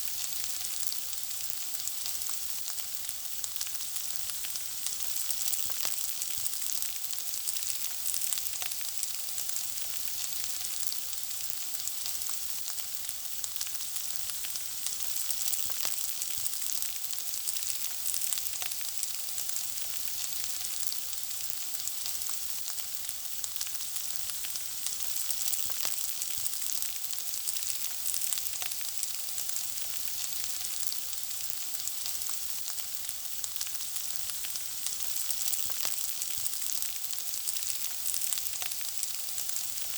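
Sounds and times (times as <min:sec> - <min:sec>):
food sizzling in hot oil: 0:00.0 - 0:39.9
oil crackling and popping: 0:00.0 - 0:39.9.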